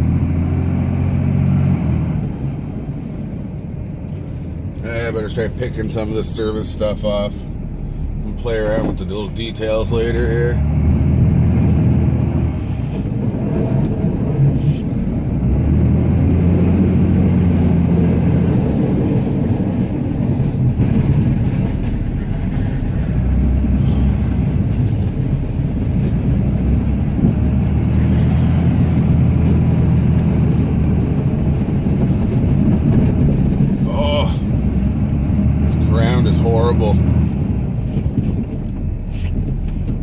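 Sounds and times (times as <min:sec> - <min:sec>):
diesel pickup engine droning: 0:00.0 - 0:40.0.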